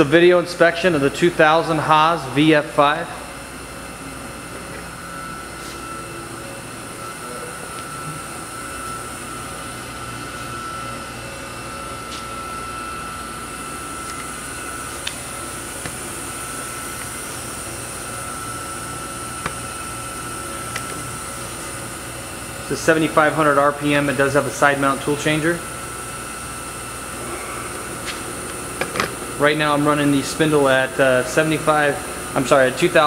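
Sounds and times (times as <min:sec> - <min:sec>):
machine spindle high whine: 0:00.0 - 0:33.0.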